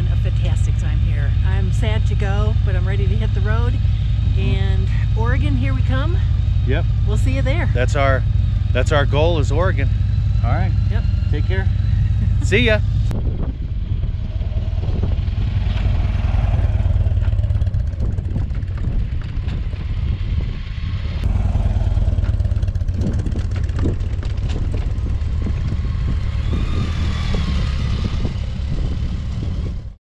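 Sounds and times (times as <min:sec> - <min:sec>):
motorcycle engines running slowly: 0:00.0 - 0:30.0.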